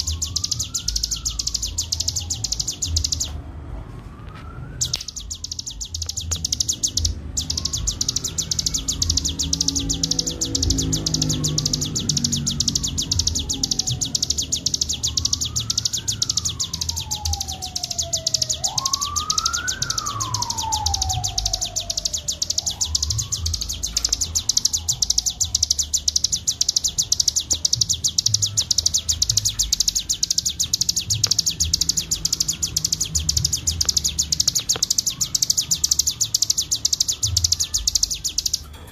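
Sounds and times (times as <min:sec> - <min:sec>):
swooping whistles: 0:00.0 - 0:03.3, 0:04.7 - 0:38.6
songbird fast dry trill: 0:04.8 - 0:38.7.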